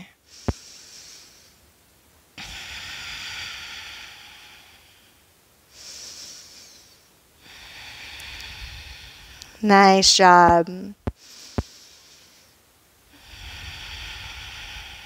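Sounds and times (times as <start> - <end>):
woman breathing: 0.0 - 15.0.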